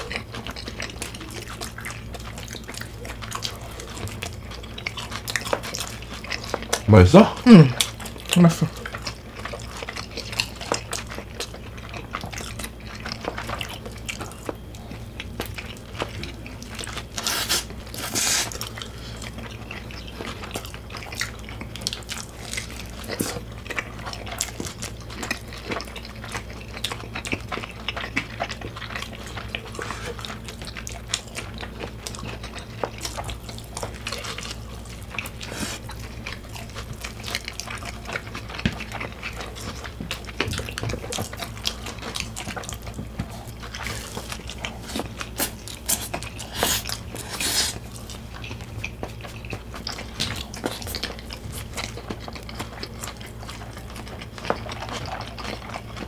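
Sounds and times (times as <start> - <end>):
people chewing close to microphone: 0.0 - 56.0
steady low hum: 0.0 - 56.0.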